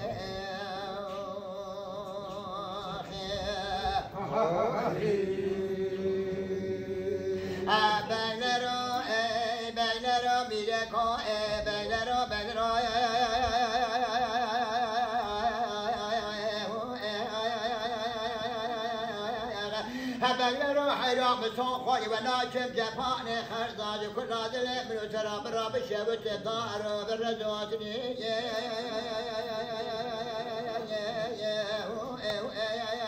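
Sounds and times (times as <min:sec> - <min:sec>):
solo voice chanting with vibrato: 0:00.0 - 0:33.0.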